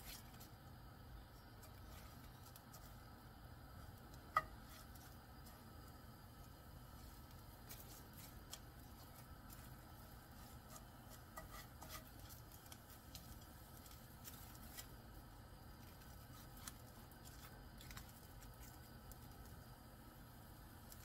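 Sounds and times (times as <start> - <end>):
seaweed sheets crisp clicks and rustles: 1.5 - 3.0, 3.9 - 19.7, 20.8 - 21.0.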